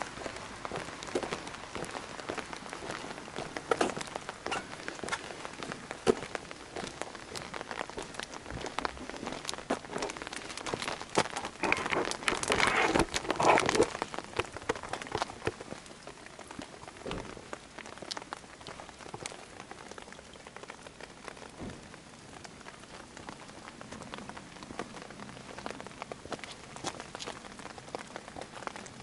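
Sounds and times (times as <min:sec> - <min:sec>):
rain pattering: 0:00.0 - 0:29.0.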